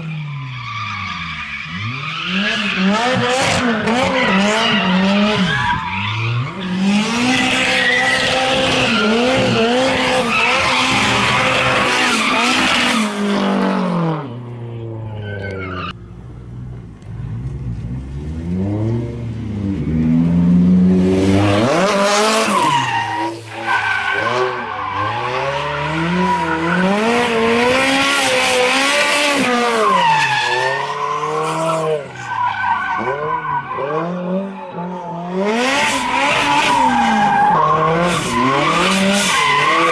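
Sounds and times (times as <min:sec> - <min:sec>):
car engine revving: 0:01.2 - 0:39.9.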